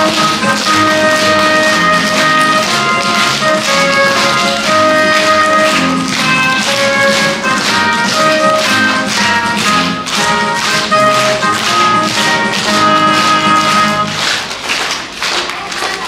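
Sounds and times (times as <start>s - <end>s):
instrumental music with tapping beat: 0.0s - 15.0s.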